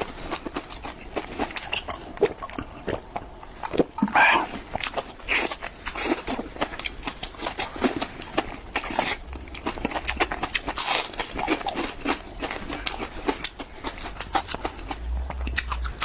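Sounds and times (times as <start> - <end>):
wet chewing and smacking: 0.0 - 16.0.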